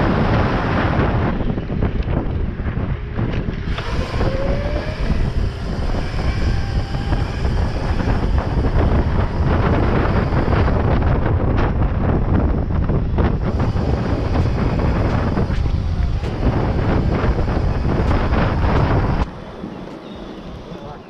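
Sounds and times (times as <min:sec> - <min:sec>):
faint rising whine: 0:00.0 - 0:21.0
road rumble: 0:00.0 - 0:21.0
wind buffeting microphone: 0:00.0 - 0:21.0.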